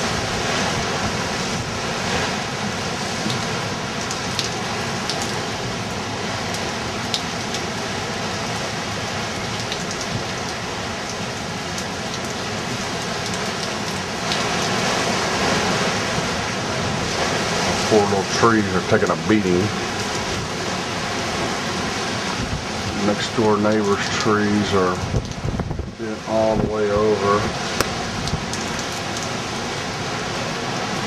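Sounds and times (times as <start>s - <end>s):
wind-driven rain pouring: 0.0s - 31.0s.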